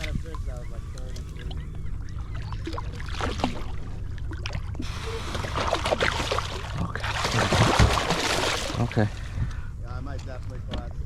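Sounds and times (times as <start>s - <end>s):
steady low rumble: 0.0s - 11.0s
water splashing against boat: 0.0s - 11.0s.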